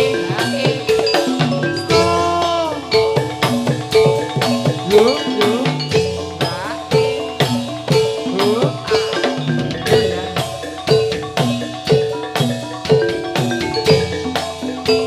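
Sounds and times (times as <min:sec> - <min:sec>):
drums beating: 0:00.0 - 0:15.0
gamelan music: 0:00.0 - 0:15.0
struck bronze metallophones: 0:00.0 - 0:15.0.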